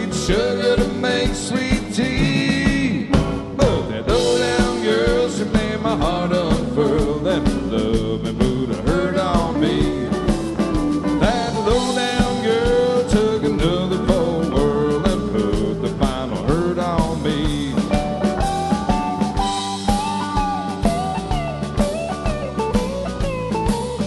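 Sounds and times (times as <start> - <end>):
bass guitar: 0.0 - 24.0
guitar with bending notes: 0.0 - 24.0
steady drum beat: 0.0 - 24.0.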